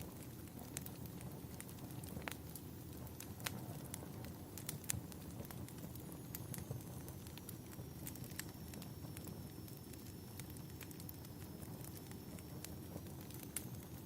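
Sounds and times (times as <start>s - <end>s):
fire low rumble: 0.0s - 14.0s
wood fire crackling and popping: 0.0s - 14.0s.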